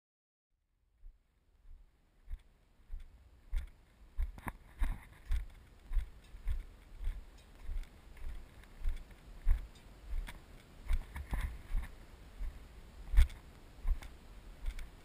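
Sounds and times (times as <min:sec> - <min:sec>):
footsteps on sand and gravel: 0:01.7 - 0:15.0.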